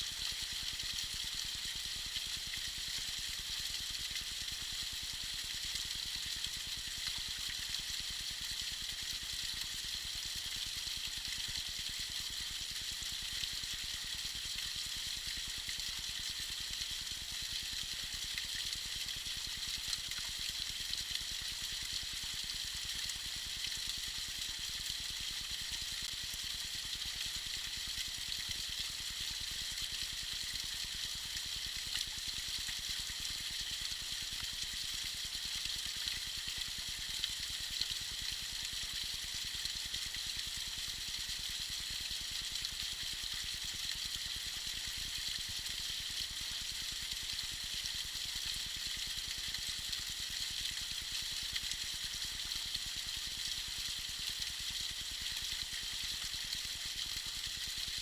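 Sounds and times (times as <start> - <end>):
small waterfall splashing and trickling: 0.0 - 58.0.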